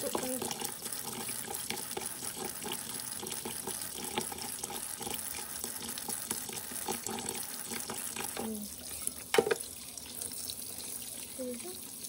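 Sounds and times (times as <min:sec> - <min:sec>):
tap running into a sink: 0:00.0 - 0:10.4.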